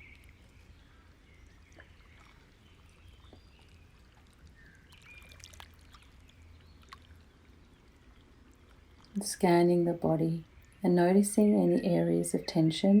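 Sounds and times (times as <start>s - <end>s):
low steady hum and hiss: 0.0s - 13.0s.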